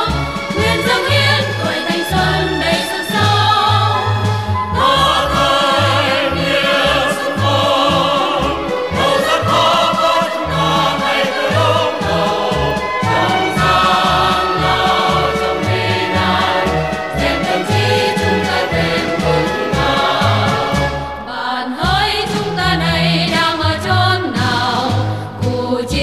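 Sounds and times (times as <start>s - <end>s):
instrumental accompaniment with bass: 0.0s - 26.0s
mixed choir singing: 0.0s - 26.0s.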